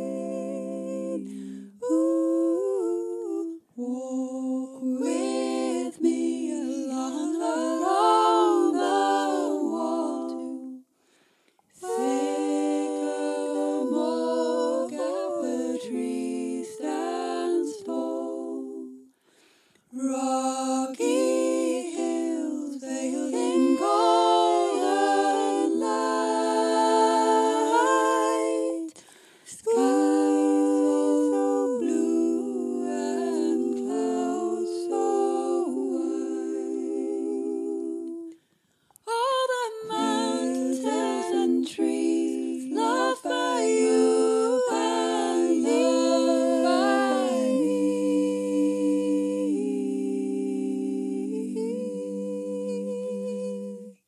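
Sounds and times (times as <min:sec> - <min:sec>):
choir humming in harmony: 0:00.0 - 0:10.9, 0:11.7 - 0:19.1, 0:19.9 - 0:38.4, 0:39.1 - 0:54.0.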